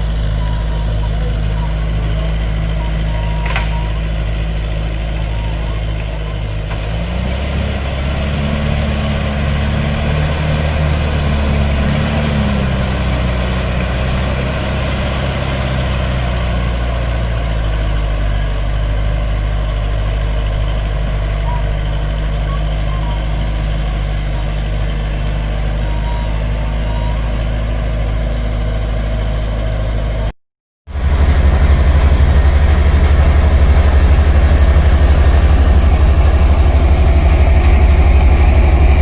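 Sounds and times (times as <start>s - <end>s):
diesel engine revving: 0.0s - 30.3s, 30.9s - 39.0s.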